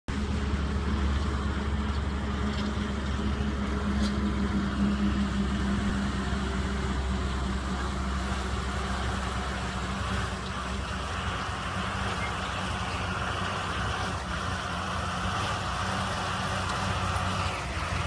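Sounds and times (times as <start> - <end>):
diesel engine under load: 0.1 - 18.0.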